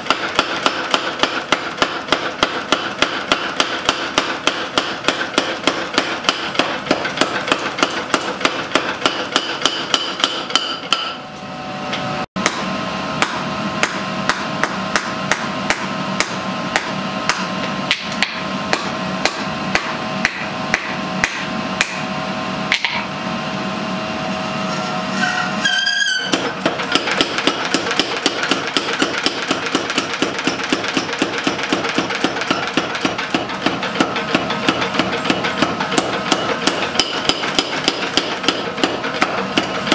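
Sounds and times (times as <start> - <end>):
hammer striking hot metal: 0.0 - 11.3, 12.4 - 22.1, 22.7 - 23.1, 26.1 - 39.9.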